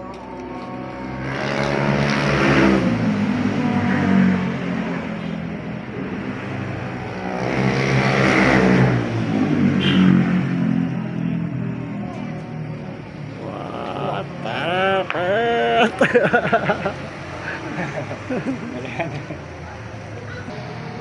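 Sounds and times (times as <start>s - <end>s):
motor vehicles passing by: 0.0s - 21.0s.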